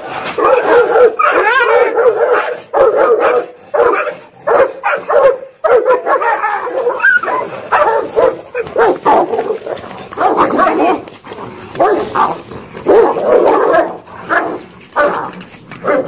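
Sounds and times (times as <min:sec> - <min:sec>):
dogs barking: 0:00.0 - 0:16.0
dogs snarling and growling: 0:00.0 - 0:16.0.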